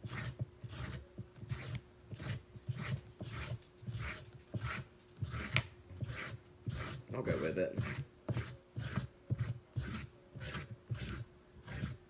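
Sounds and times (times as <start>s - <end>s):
peeler scraping carrot: 0.0s - 12.0s.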